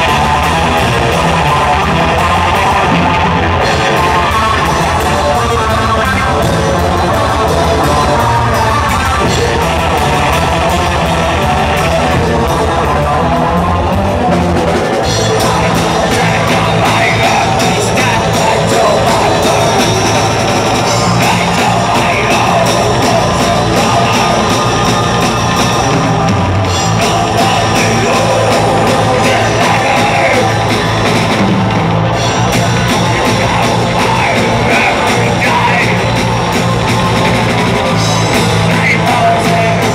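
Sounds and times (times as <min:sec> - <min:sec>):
bass guitar: 0:00.0 - 0:39.9
distorted electric guitar: 0:00.0 - 0:39.9
drum kit with kick-drum rolls: 0:00.0 - 0:39.9
harsh yelled vocals: 0:00.0 - 0:39.9.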